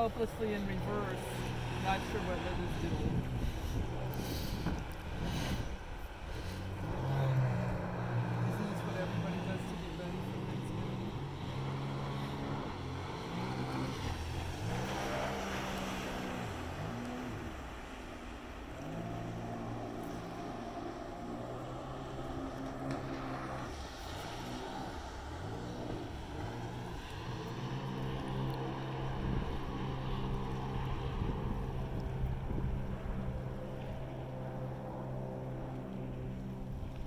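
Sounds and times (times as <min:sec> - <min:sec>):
jet ski engines: 0:00.0 - 0:37.0.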